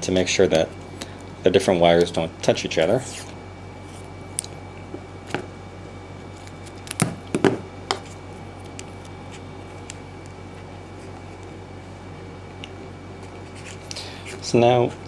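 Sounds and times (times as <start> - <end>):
steady low hum: 0.0 - 15.0
tape crackling and clicking: 0.6 - 5.5, 6.2 - 15.0.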